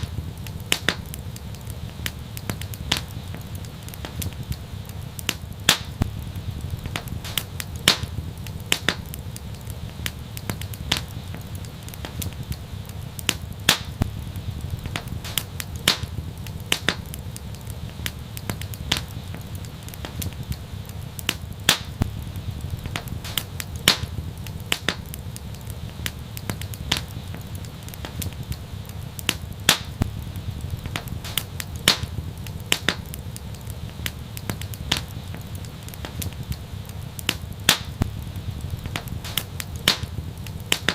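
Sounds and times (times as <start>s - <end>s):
steady low rumble: 0.0s - 40.9s
wood fire crackling: 0.0s - 40.9s.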